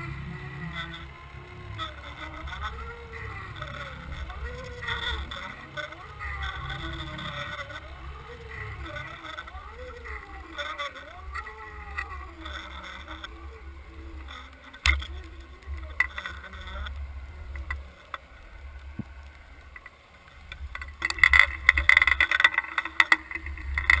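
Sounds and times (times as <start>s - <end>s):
crackling hiss: 0.0s - 24.0s.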